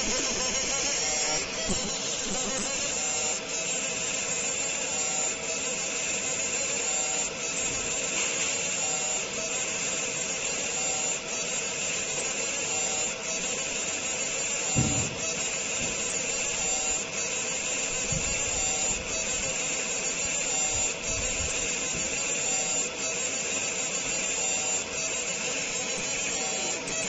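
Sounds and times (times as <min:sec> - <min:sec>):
laser engraving hiss: 0:00.0 - 0:27.0.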